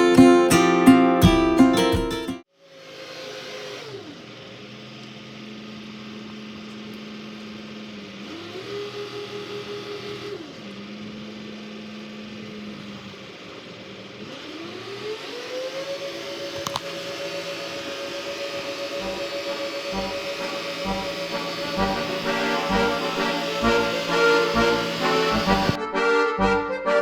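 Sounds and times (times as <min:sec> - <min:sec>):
engine changing speed: 0:02.7 - 0:25.8.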